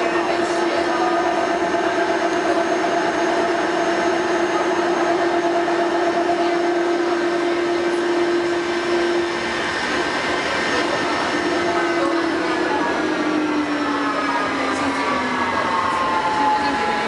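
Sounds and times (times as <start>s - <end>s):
metro train rolling: 0.0s - 17.0s
steady humming tone: 0.0s - 17.0s.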